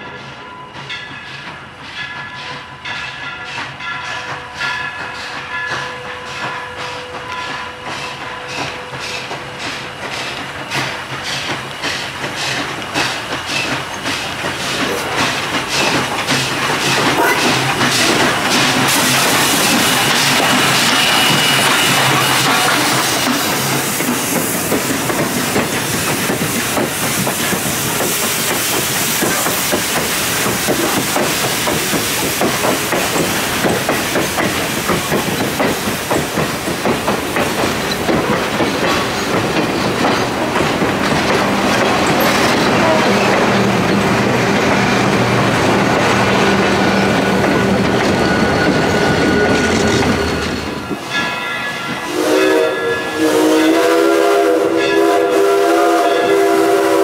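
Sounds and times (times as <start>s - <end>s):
train wheels clattering over rail joints: 0.8s - 52.1s.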